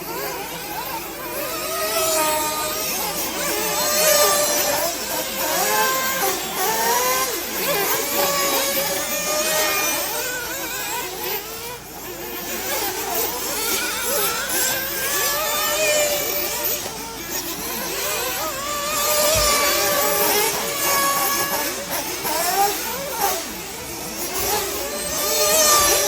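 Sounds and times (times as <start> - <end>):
rc car engines revving: 0.0 - 26.0.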